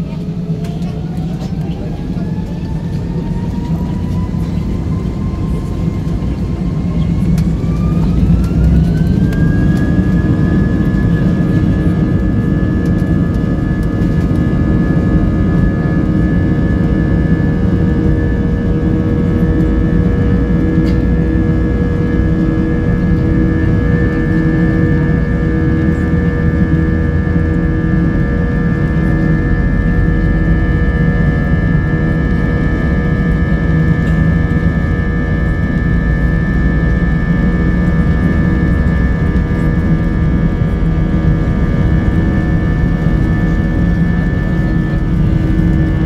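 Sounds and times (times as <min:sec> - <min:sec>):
jet engines heard from cabin: 0:00.0 - 0:46.0.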